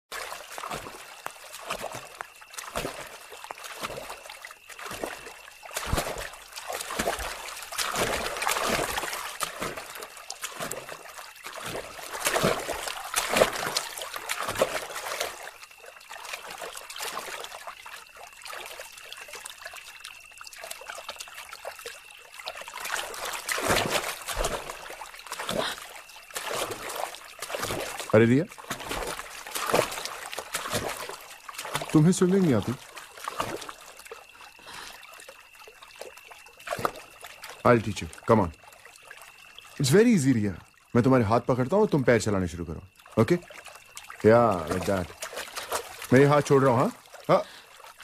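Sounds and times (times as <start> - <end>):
water splashing in a pool: 0.0 - 48.0.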